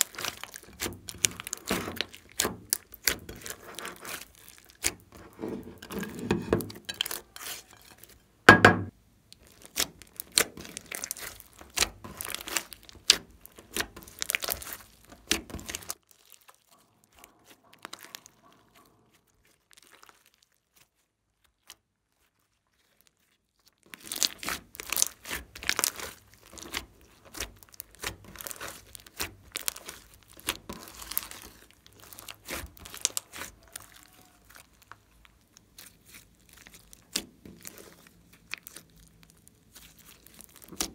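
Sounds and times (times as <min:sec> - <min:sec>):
slime squeezed with wet crackles: 0:00.0 - 0:05.3, 0:06.6 - 0:08.2, 0:09.3 - 0:40.9.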